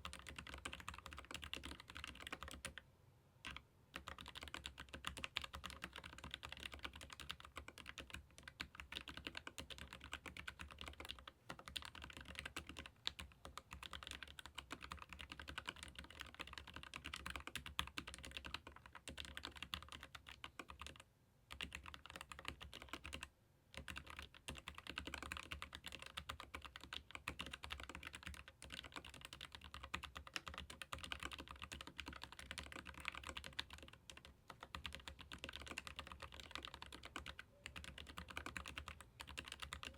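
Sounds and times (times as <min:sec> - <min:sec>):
fast typing on mechanical keyboard: 0:00.0 - 0:02.8, 0:03.4 - 0:39.9.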